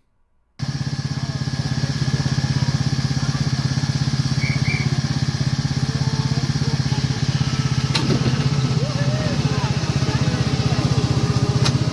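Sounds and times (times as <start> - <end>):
small locomotive engine running: 0.6 - 11.9.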